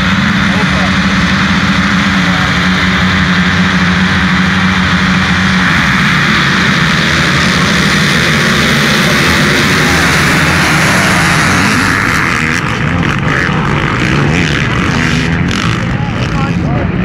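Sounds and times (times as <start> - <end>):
motocross bikes revving and accelerating: 0.0 - 17.0.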